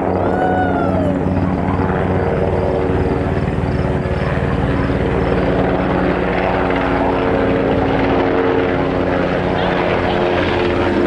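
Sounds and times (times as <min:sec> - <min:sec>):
helicopter engine tone: 0:00.0 - 0:11.0
helicopter rotor beating: 0:00.0 - 0:11.0.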